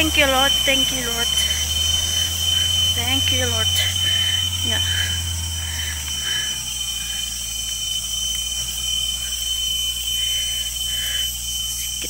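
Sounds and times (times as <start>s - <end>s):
high-pitched whine: 0.0s - 12.0s
vehicle engine humming: 0.0s - 12.0s.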